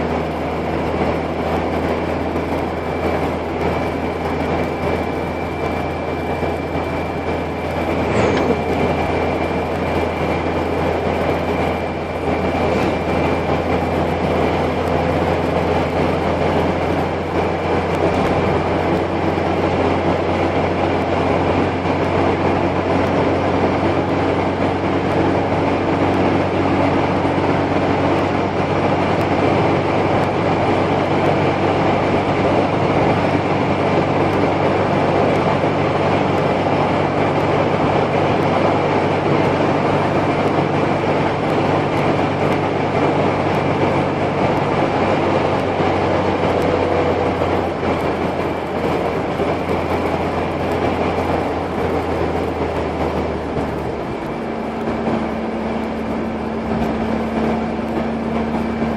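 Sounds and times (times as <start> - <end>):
car engine hum: 0.0 - 58.9
wind noise: 0.0 - 58.9.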